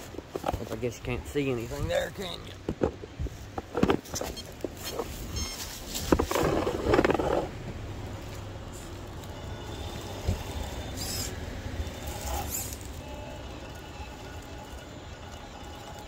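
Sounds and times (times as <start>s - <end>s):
electric motor hum and whine: 0.0s - 16.0s.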